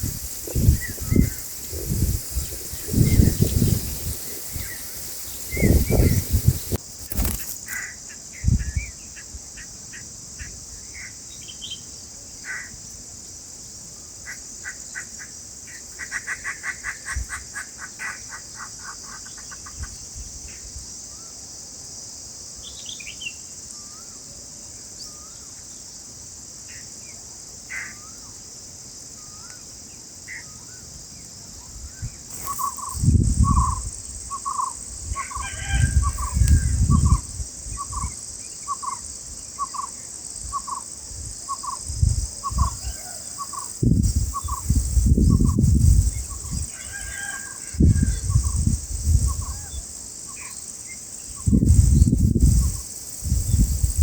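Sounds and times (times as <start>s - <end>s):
high insect hiss: 0.0s - 54.0s.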